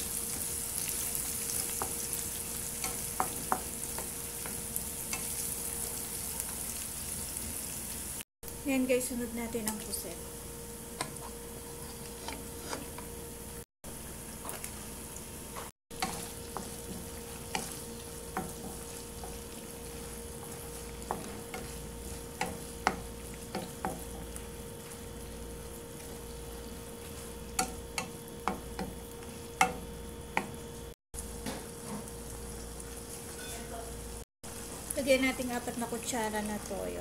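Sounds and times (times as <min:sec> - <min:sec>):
food sizzling in oil: 0:00.0 - 0:37.0.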